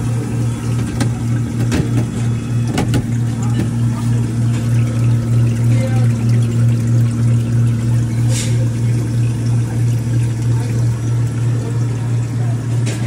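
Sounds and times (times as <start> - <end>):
ice machine humming: 0.0 - 13.0
water running through machine: 0.0 - 13.0.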